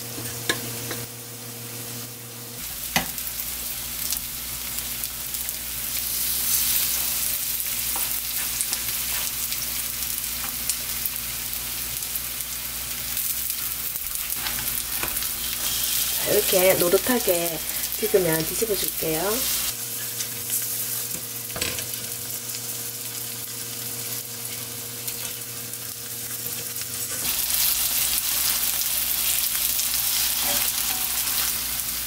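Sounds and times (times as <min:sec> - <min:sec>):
eggplant sizzling in oil: 0:00.0 - 0:32.0.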